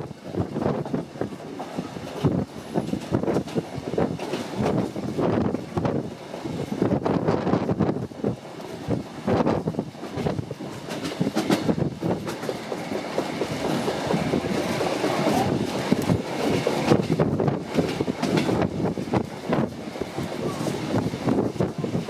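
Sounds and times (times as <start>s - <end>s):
train rumbling: 0.0s - 22.0s
train wheels clattering over rails: 0.0s - 22.0s.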